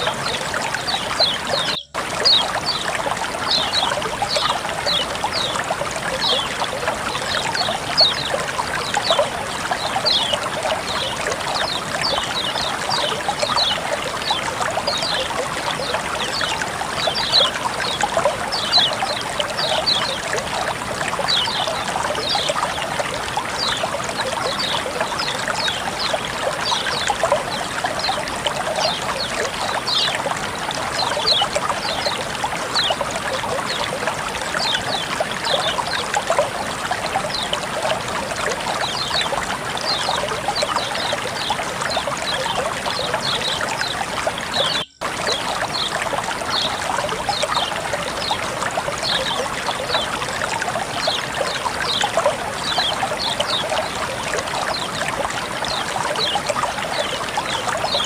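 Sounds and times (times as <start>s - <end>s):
water flowing and trickling: 0.0s - 58.0s.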